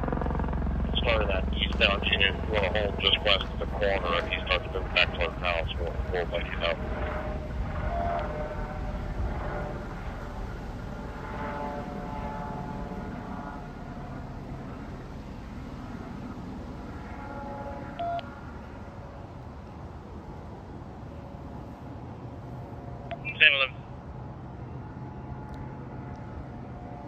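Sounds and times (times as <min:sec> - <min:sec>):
faint whining tones: 0:00.0 - 0:27.0
helicopter rotor rumble: 0:00.0 - 0:27.0.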